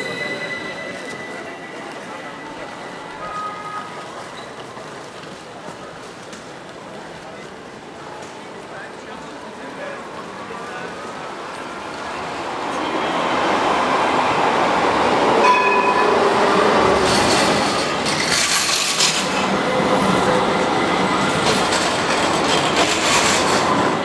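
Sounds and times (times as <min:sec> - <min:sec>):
tram wheels rolling on rail: 0:00.0 - 0:24.0.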